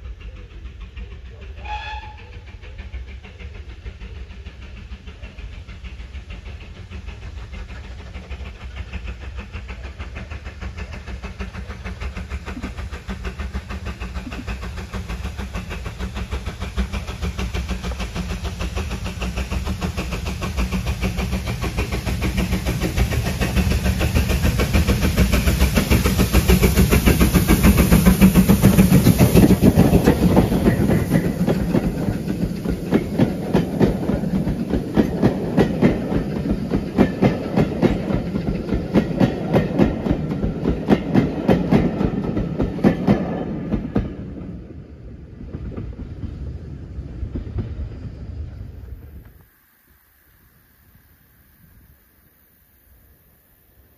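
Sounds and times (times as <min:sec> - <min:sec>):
train wheels clickety-clack: 0:00.0 - 0:49.4
steam locomotive passing: 0:00.0 - 0:53.9.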